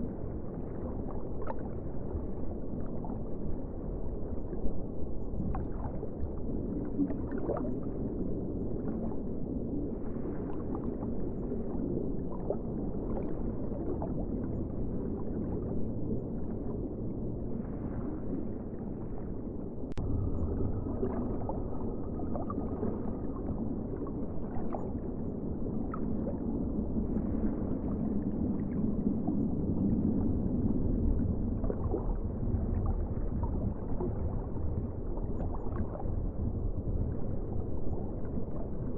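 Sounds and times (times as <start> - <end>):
ocean water washing and gurgling: 0.0 - 38.9
small splashes and bubbling: 0.0 - 38.9.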